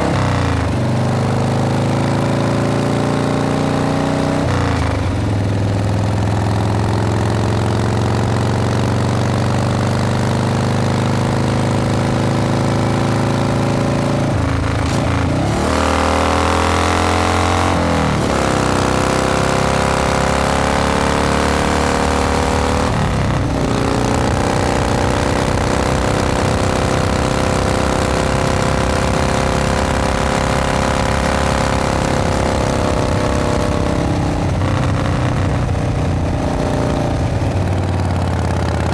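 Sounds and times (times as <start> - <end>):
motorcycle engine at speed: 0.0 - 38.9.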